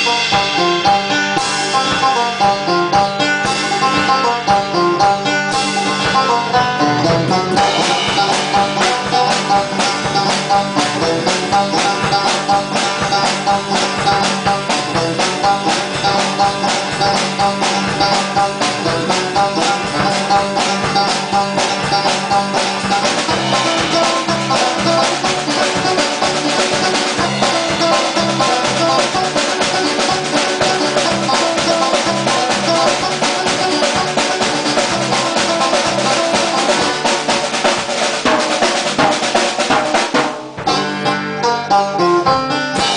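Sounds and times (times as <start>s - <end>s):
acoustic and electric guitars strummed: 0.0s - 42.9s.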